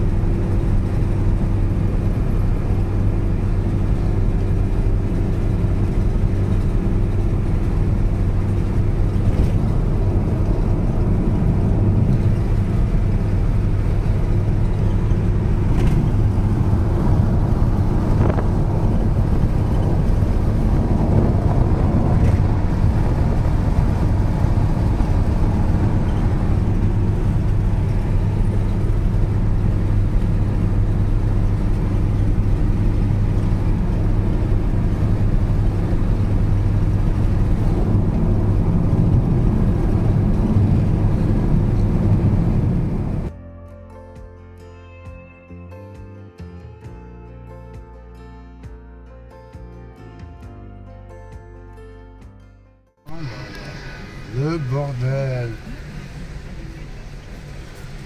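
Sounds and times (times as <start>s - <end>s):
engine and road drone: 0.0s - 44.6s, 45.3s - 58.0s.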